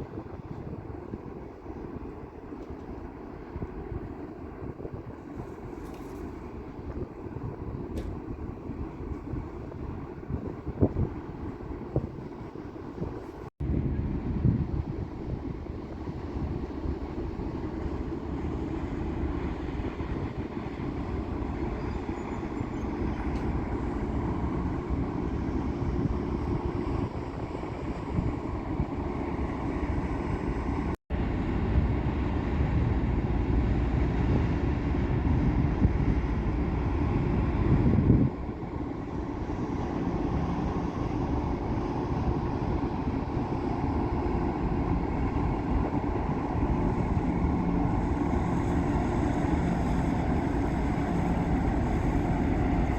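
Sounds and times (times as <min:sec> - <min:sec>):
ship low rumble: 0:00.0 - 0:52.9.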